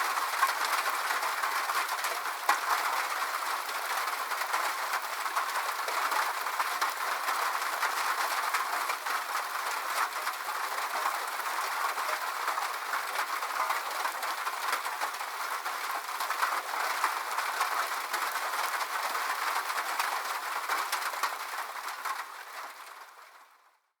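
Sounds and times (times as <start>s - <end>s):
rain on a metal roof: 0.0s - 23.8s.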